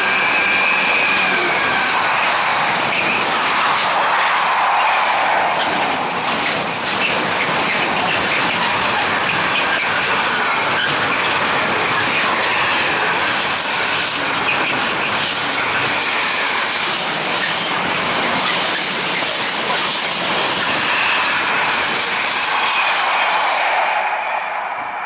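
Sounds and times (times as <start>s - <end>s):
train wheels clattering on rails: 0.0s - 25.0s.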